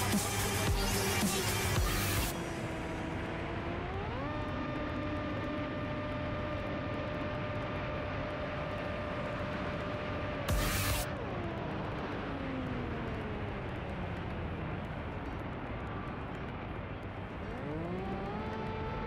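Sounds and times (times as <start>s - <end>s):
electric motor whine: 0.0s - 19.0s.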